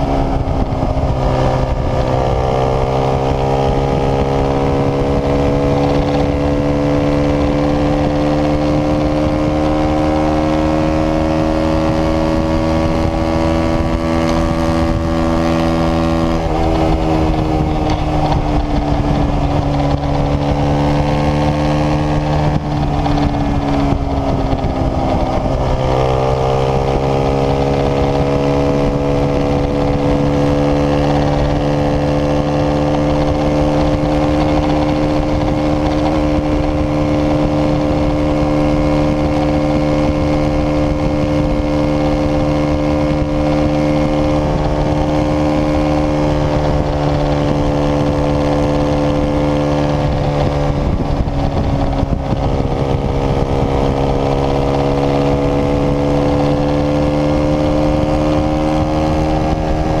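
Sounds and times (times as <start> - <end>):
motorcycle engine running: 0.0 - 60.0
wind noise on microphone: 0.0 - 60.0.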